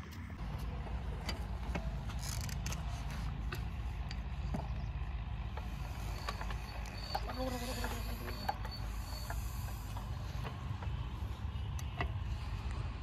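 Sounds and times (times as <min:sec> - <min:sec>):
diesel engine chugging: 0:00.4 - 0:13.0.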